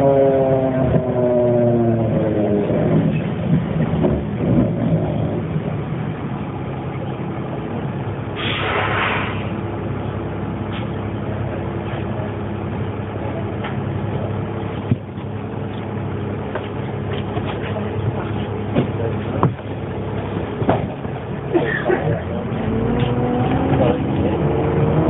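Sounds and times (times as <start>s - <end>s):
bus engine drone: 0.0s - 25.0s.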